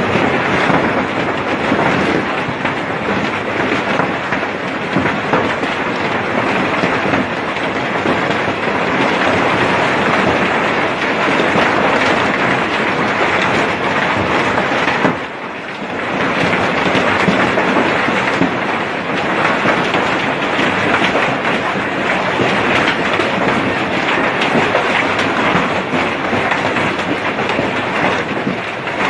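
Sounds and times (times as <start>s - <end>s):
heavy rain with hail clattering: 0.0s - 29.0s.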